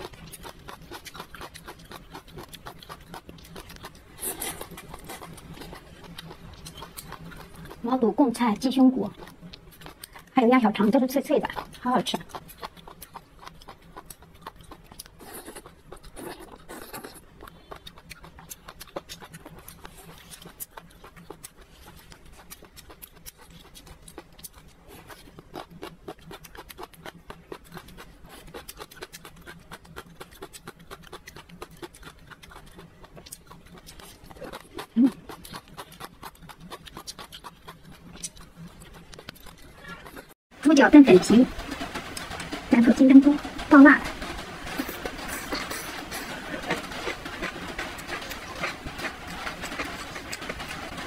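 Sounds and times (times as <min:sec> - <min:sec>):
crunchy chewing: 0:00.0 - 0:40.4, 0:41.0 - 0:51.0.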